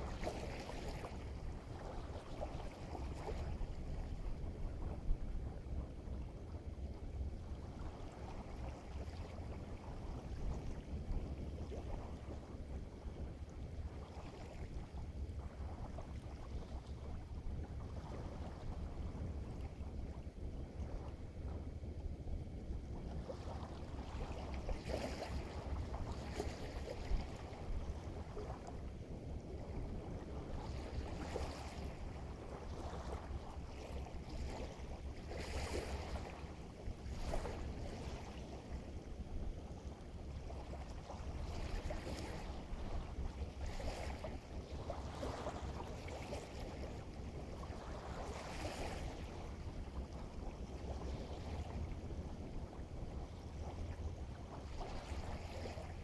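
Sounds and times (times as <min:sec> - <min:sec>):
small waves washing: 0:00.0 - 0:56.0
wind rumble on microphone: 0:00.0 - 0:56.0.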